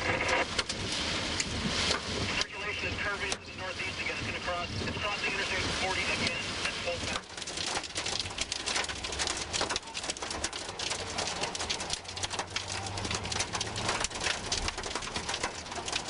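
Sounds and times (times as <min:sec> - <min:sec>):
engine and road rumble: 0:00.0 - 0:16.0
heavy rain on car roof: 0:00.0 - 0:16.0.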